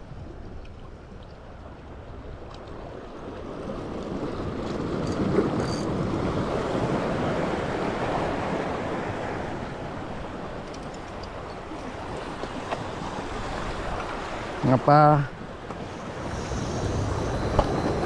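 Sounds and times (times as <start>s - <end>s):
surf washing over rocks: 2.8s - 18.0s.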